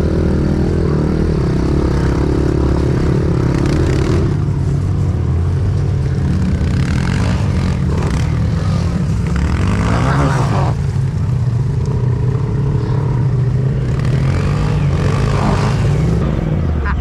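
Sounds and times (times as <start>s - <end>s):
pit bike engines at low revs: 0.0s - 17.0s.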